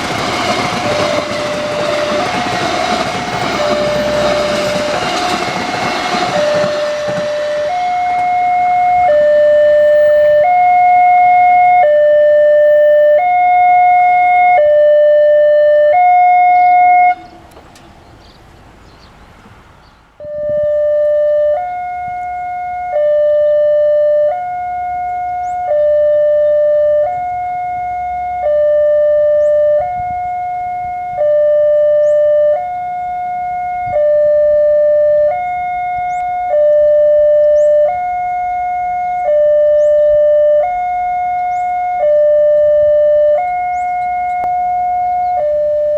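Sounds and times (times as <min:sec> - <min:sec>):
two-tone crossing warning siren: 0:00.0 - 0:18.1, 0:20.2 - 0:45.9.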